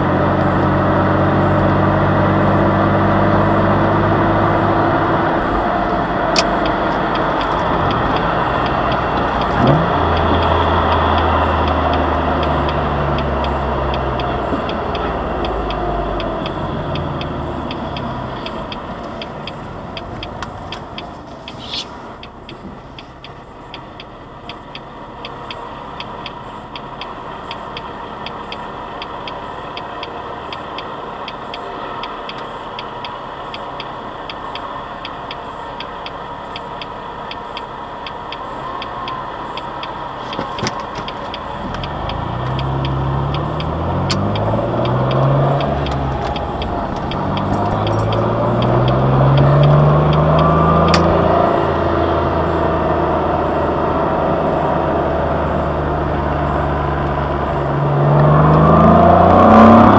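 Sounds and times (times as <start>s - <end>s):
car engine idling: 0.0s - 59.9s
turn signal ticking: 0.0s - 59.9s.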